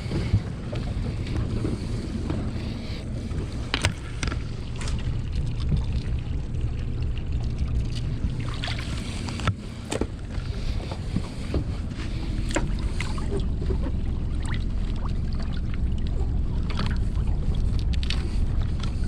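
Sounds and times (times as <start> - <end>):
water sloshing: 0.0 - 19.0.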